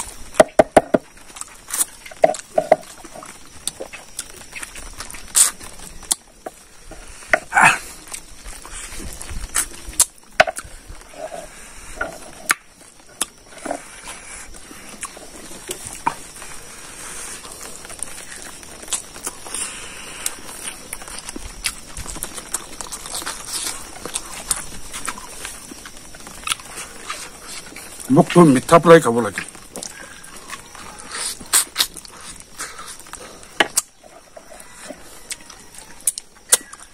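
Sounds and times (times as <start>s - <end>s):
chewing and lip-smacking: 1.2s - 28.1s, 29.4s - 36.9s.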